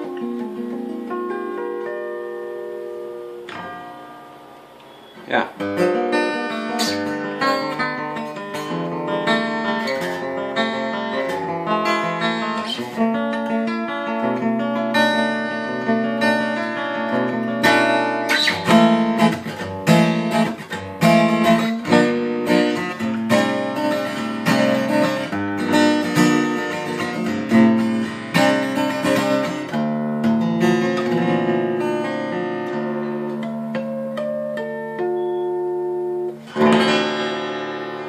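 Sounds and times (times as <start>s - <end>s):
acoustic guitar fingerpicking: 0.0s - 38.0s
acoustic guitar strummed chords: 0.0s - 38.0s.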